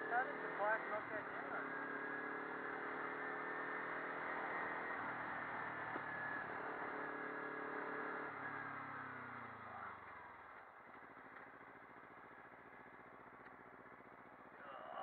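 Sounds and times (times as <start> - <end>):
motorcycle engine idling: 0.0 - 15.0
motorcycle engine winding down: 0.0 - 15.0.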